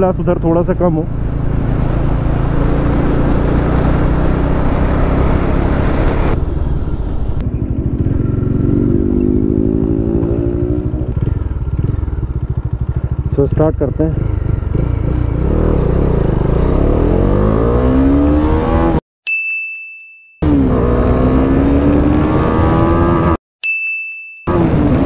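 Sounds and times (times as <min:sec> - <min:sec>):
motorcycle engine: 0:00.0 - 0:19.0, 0:20.4 - 0:23.4, 0:24.5 - 0:25.0.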